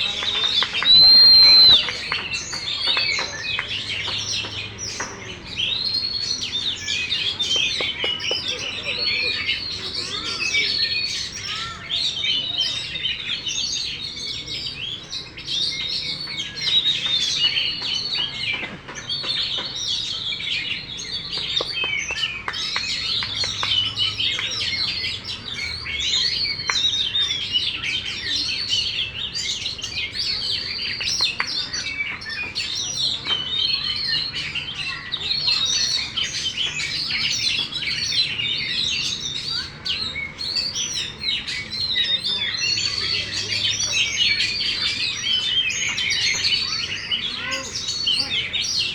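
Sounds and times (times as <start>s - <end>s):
magpie-robin singing: 0.0s - 48.9s.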